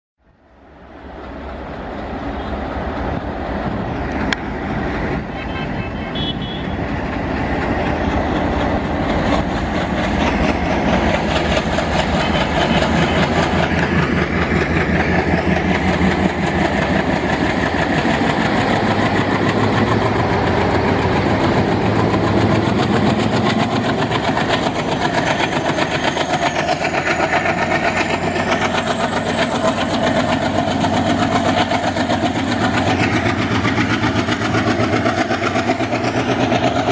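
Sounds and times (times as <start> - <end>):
diesel locomotive chugging: 0.2 - 36.9
train rolling by: 0.2 - 36.9.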